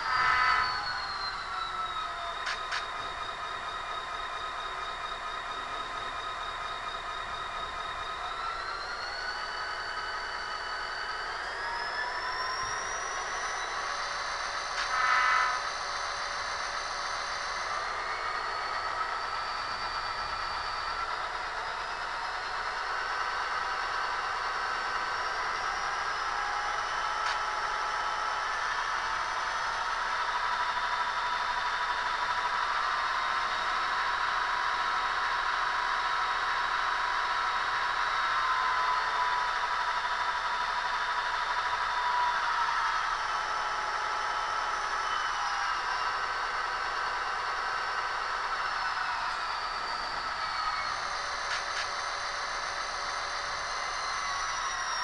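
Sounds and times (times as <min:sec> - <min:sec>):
simulated diesel engine from speaker: 0:00.0 - 0:55.0.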